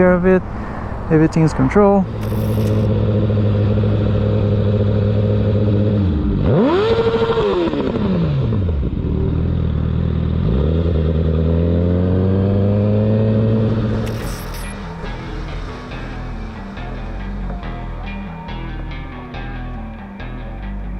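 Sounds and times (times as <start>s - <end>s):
motorcycle engine revving: 2.1s - 20.8s.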